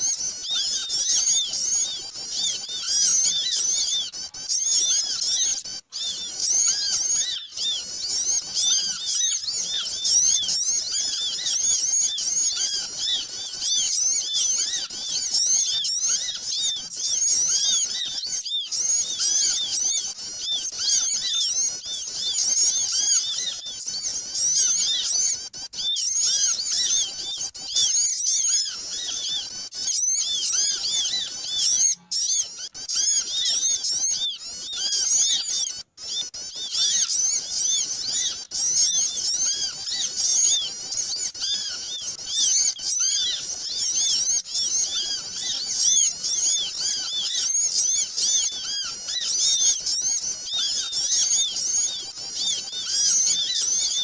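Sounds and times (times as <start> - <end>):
many small birds chirping: 0.0 - 54.0.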